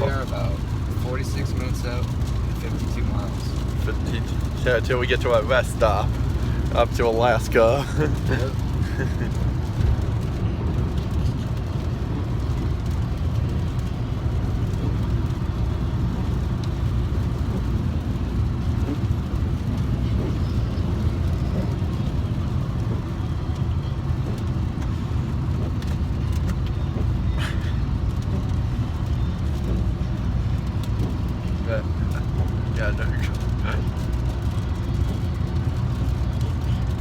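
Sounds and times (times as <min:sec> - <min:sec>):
car interior road rumble: 0:00.0 - 0:37.0.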